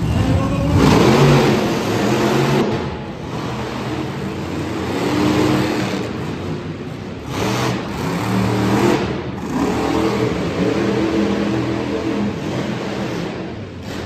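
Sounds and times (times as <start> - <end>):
monster truck engines revving: 0.0 - 14.0.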